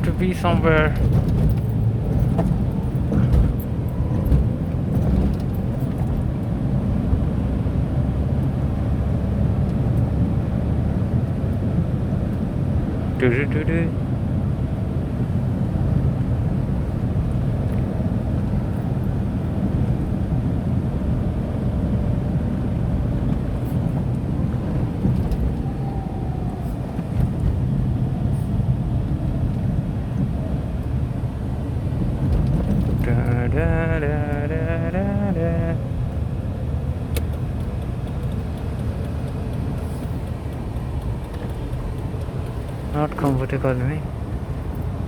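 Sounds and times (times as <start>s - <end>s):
car cabin engine and tyre rumble: 0.0s - 45.0s.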